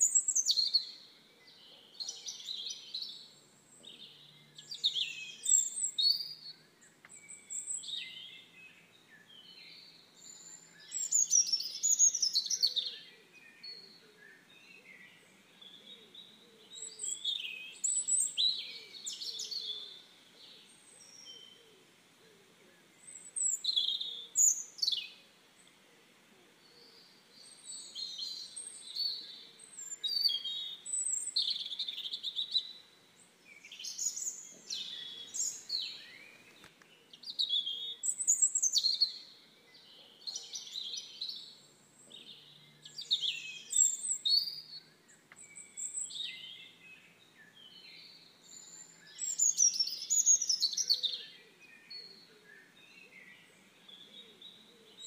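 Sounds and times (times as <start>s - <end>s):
bird chirping: 0.0s - 26.0s, 26.6s - 55.0s.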